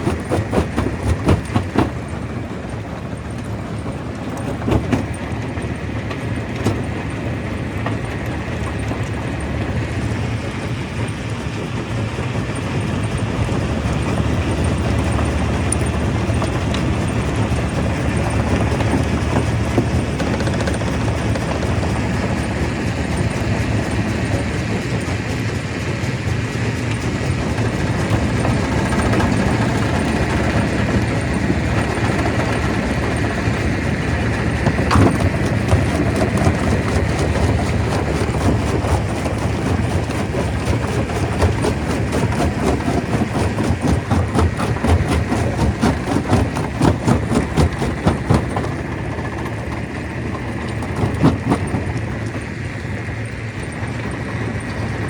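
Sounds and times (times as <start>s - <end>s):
stone crusher drone: 0.0s - 9.7s, 14.6s - 52.4s.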